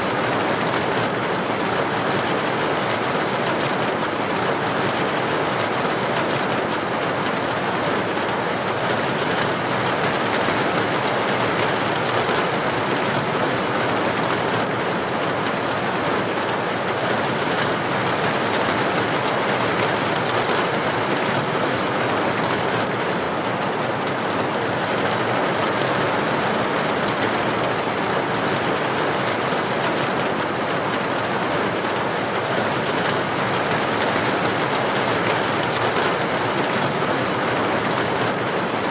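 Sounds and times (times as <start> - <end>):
heavy rain on street: 0.0 - 38.9.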